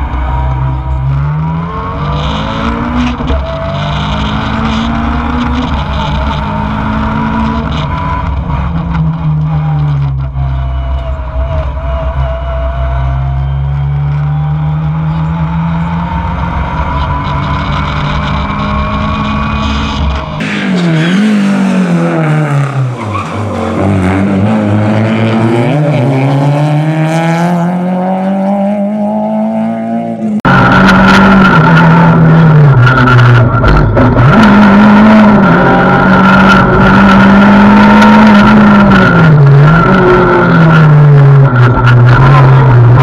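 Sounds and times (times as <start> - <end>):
rally car engine racing: 0.0 - 43.0.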